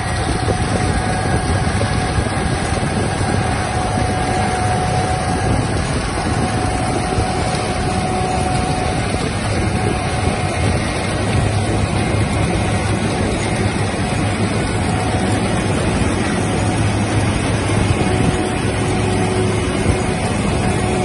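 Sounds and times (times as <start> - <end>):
harvester and tractor running: 0.0 - 21.0.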